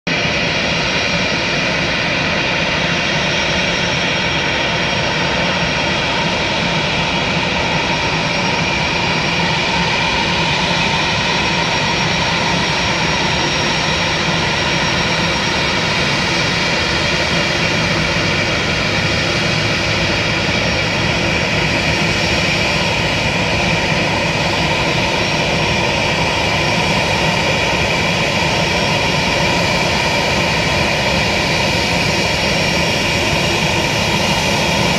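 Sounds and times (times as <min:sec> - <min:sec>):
airliner engines whining: 0:00.1 - 0:34.9.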